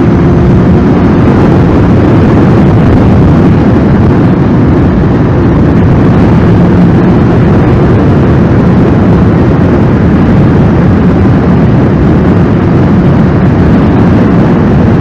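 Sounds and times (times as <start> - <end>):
heavy wind rush on microphone: 0.0 - 15.0
motorcycle engine running steadily: 0.0 - 15.0.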